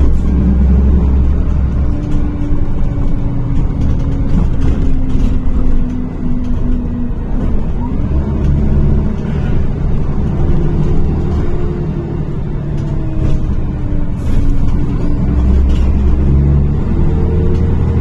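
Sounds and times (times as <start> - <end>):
bus engine hum: 0.0 - 18.0.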